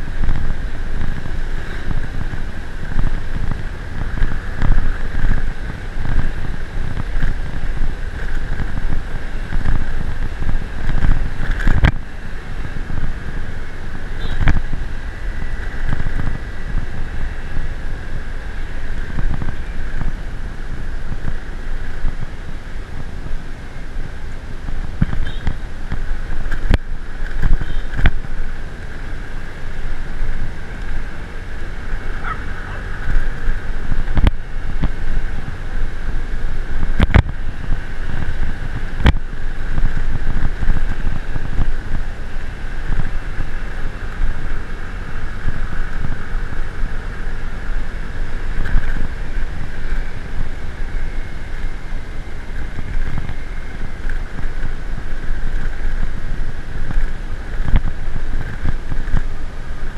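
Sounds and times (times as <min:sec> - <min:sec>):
vehicle engine droning: 0:00.0 - 0:59.9
wind buffeting microphone: 0:00.0 - 0:59.9.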